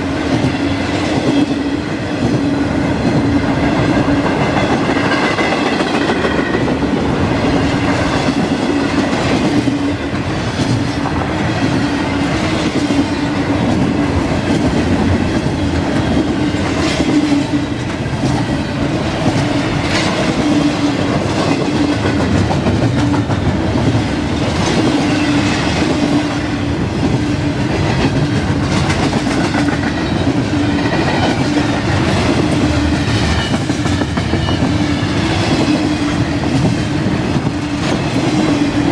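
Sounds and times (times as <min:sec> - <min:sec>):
freight train rumbling and rattling: 0:00.0 - 0:38.9.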